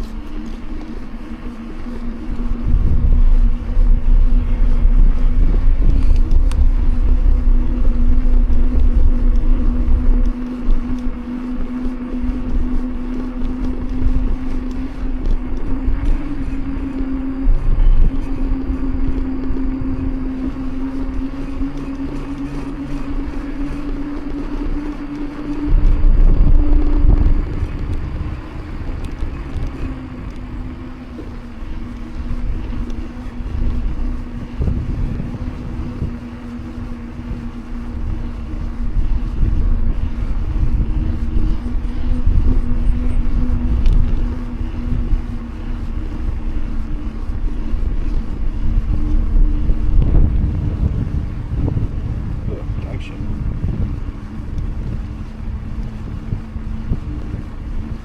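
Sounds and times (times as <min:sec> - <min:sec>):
bike tyres humming on pavement: 0:00.0 - 0:58.0
wind rumble on microphone: 0:00.0 - 0:58.0.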